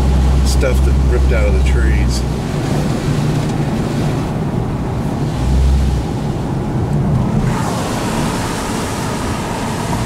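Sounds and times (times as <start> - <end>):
tyre and engine rumble: 0.0 - 10.0.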